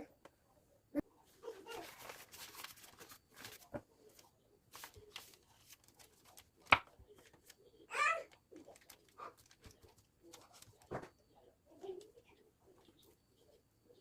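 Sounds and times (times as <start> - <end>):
soft rustling and handling: 1.1 - 13.6.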